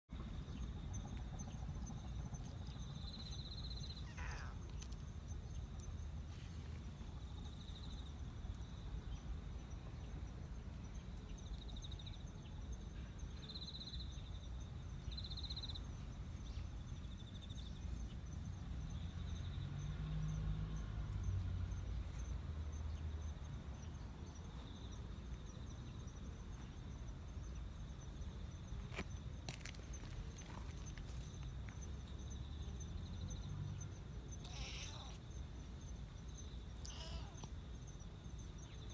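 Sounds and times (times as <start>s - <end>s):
insects chirping: 0.1s - 38.9s
low background rumble: 0.1s - 38.9s.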